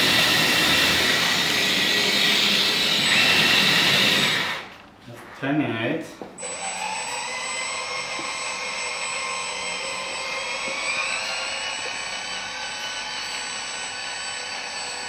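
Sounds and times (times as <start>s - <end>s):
hydraulic pump whine: 0.0s - 4.8s, 6.4s - 15.0s.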